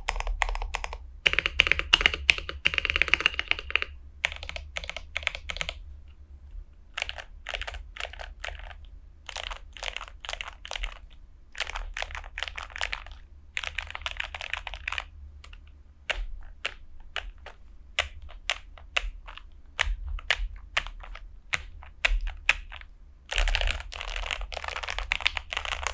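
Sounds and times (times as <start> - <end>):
typing on mechanical keyboard: 0.0 - 5.8, 7.0 - 25.9.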